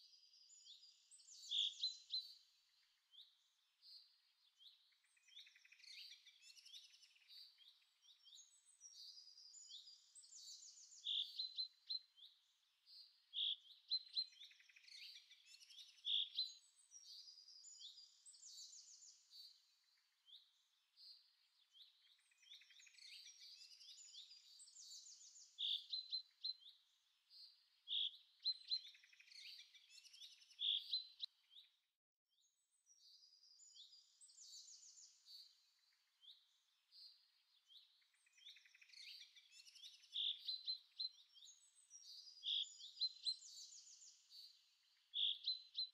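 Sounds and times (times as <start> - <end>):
birds chirping and trilling: 0.1 - 31.8, 32.8 - 45.9.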